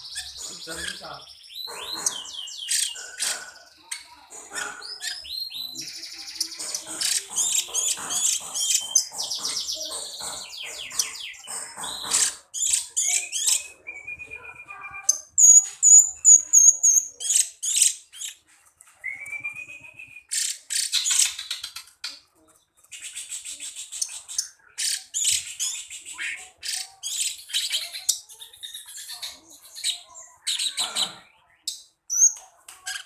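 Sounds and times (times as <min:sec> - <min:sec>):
songbird chirps and trills: 0:00.0 - 0:33.0.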